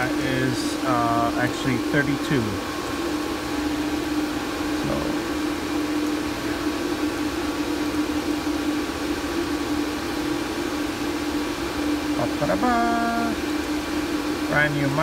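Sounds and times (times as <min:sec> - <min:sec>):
cooling fans droning: 0:00.0 - 0:15.0.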